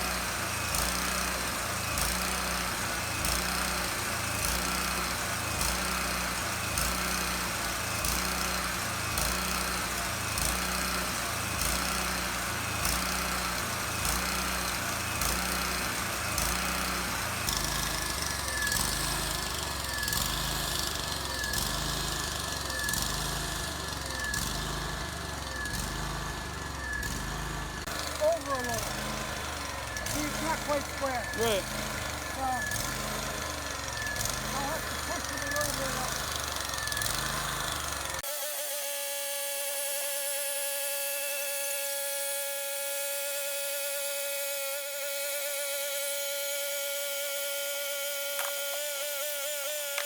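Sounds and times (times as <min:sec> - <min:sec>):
sawmill engine beating: 0:00.0 - 0:50.0.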